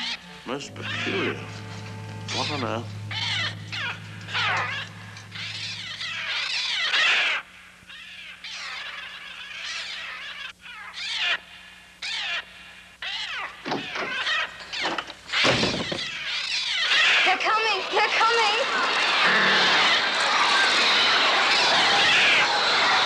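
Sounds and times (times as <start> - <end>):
birds screeching: 0.0 - 17.6, 18.7 - 23.0.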